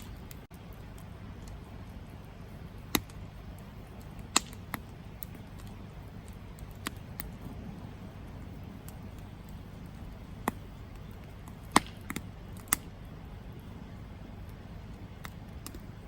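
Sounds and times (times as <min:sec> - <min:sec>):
campfire crackles and pops: 0:00.0 - 0:16.0
campfire rumbling: 0:00.0 - 0:16.0.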